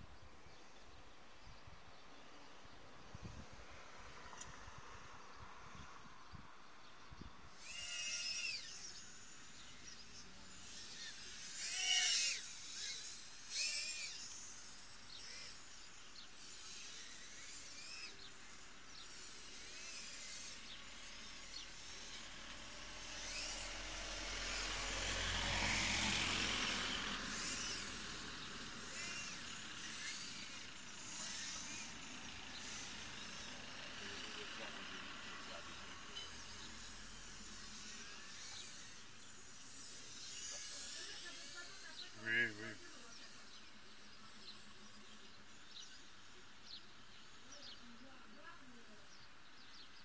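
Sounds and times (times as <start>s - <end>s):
quadcopter motors whining: 0.0s - 50.0s.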